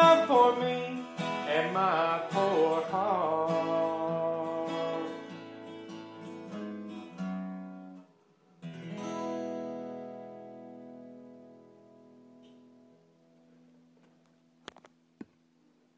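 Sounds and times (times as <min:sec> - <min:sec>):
acoustic guitar strumming: 0:00.0 - 0:13.6.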